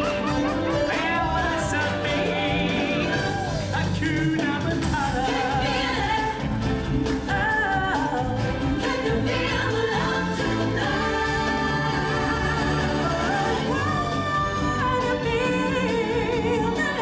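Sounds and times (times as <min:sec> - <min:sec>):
instrumental backing music: 0:00.0 - 0:17.0
person singing with vibrato: 0:00.0 - 0:17.0.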